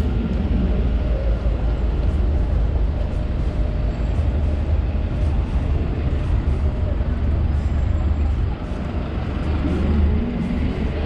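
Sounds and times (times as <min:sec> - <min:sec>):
road traffic rumble: 0:00.0 - 0:11.0
wind buffeting microphone: 0:00.0 - 0:11.0.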